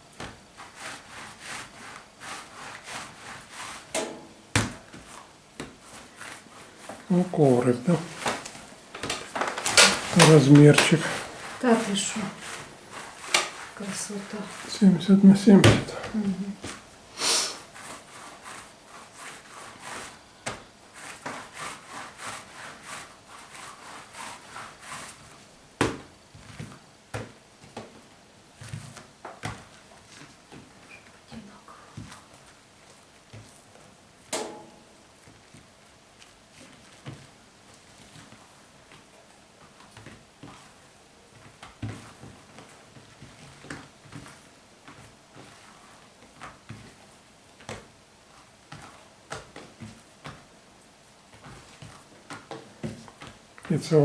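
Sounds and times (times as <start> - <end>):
dough rubbing on mat: 0.1 - 4.0, 4.6 - 26.8, 35.2 - 54.0.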